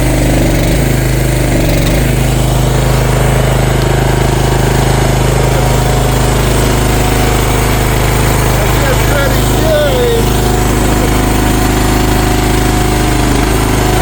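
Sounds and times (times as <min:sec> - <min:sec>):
excavator engine running: 0:00.0 - 0:14.0.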